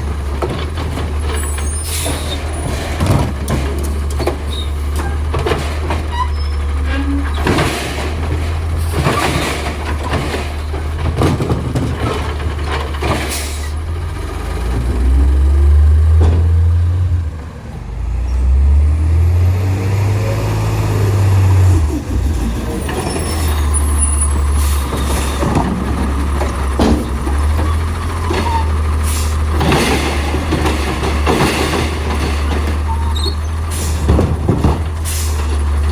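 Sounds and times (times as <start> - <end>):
knocks and clatter: 0.0 - 15.3, 16.0 - 17.2, 21.3 - 35.9
garbage truck engine: 0.0 - 35.9.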